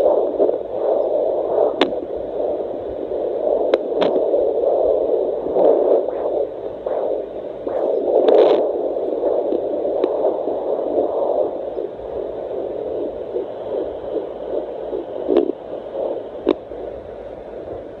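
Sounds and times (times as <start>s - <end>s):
fetal heartbeat whooshing pulse: 0.0s - 18.0s
static hiss: 0.0s - 18.0s.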